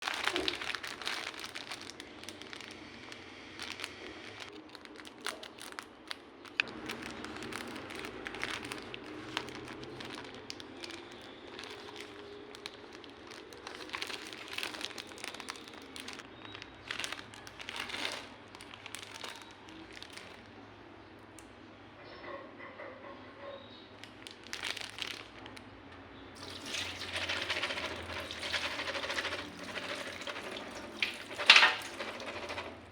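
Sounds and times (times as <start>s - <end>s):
crinkling and rustling: 0.0s - 20.5s, 24.0s - 25.6s, 26.4s - 32.9s.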